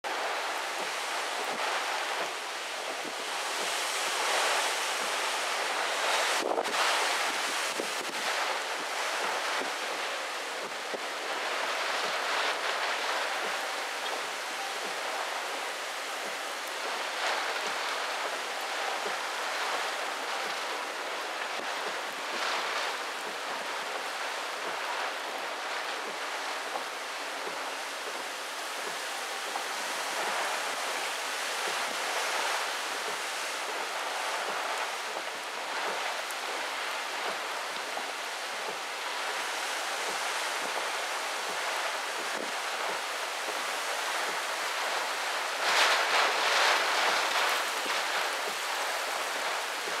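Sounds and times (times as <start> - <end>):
heavy rain: 0.0 - 50.0
strong wind: 0.0 - 50.0.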